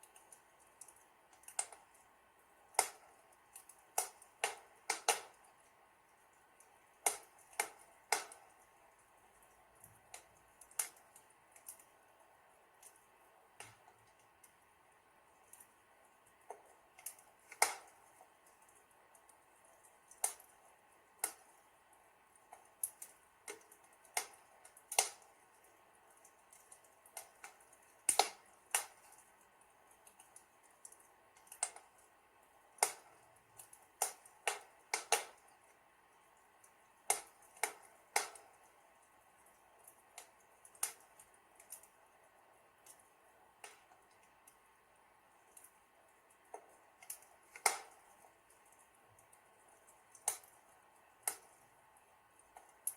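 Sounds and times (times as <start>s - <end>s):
faint steady hiss: 0.0s - 52.9s
wood fire crackling: 0.0s - 52.9s.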